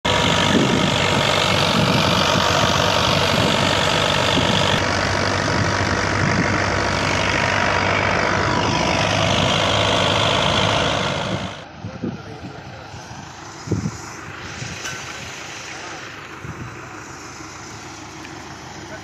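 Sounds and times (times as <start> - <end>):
tractor and threshing machine drone: 0.0 - 19.0.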